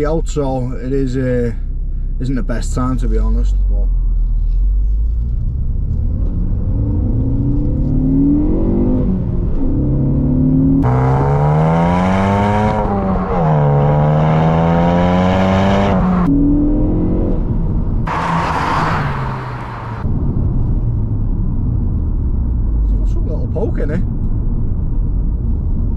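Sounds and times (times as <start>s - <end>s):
car engine accelerating: 2.6s - 25.9s.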